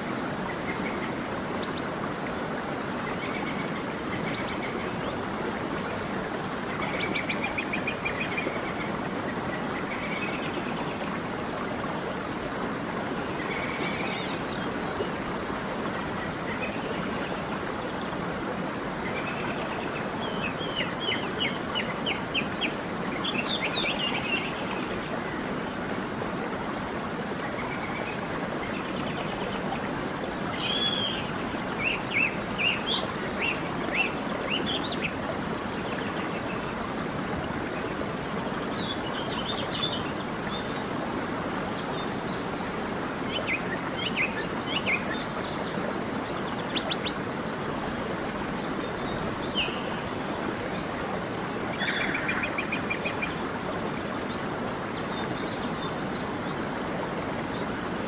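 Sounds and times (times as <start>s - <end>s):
creek rushing: 0.0s - 58.0s.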